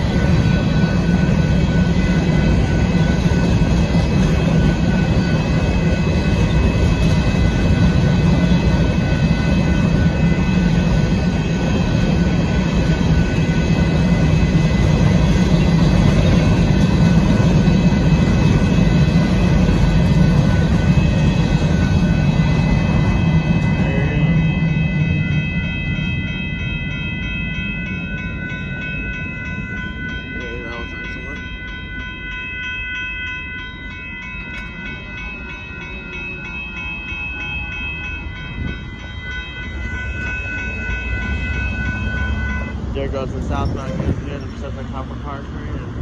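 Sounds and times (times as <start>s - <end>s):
steady high ringing tones: 0.0s - 46.0s
train wheels rumbling on rail: 0.0s - 46.0s.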